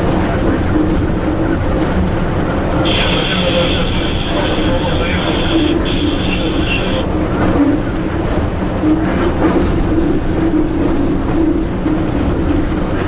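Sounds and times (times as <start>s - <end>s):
locomotive cab rumble and hum: 0.0s - 13.0s.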